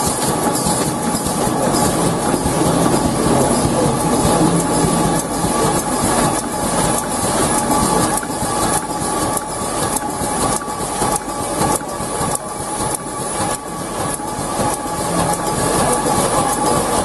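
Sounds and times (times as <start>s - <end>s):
steady machine whine: 0.0s - 17.0s
machine mechanical rumble: 0.1s - 17.0s.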